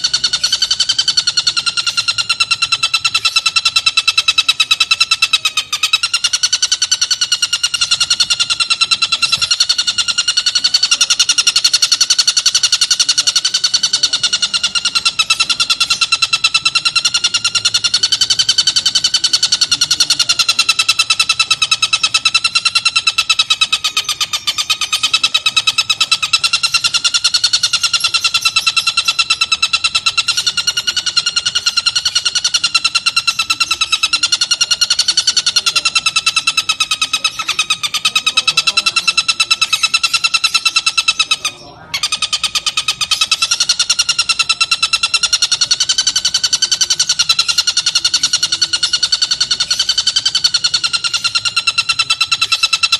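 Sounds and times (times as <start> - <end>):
bird harsh chattering call: 0.0 - 52.9.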